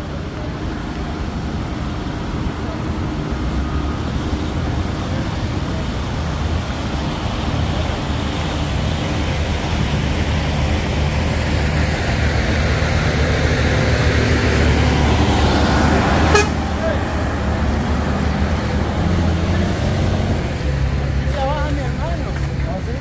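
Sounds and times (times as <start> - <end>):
diesel truck engine rumble: 0.0 - 23.0.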